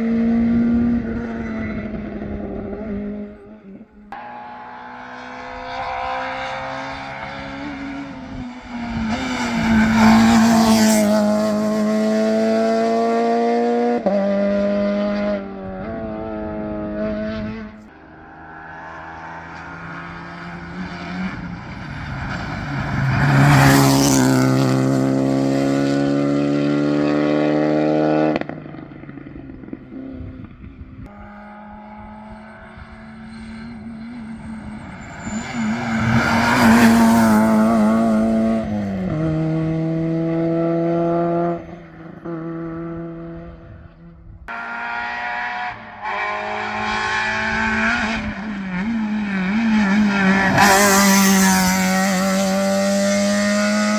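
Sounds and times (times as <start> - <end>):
rally cars passing at full throttle: 0.0 - 53.9.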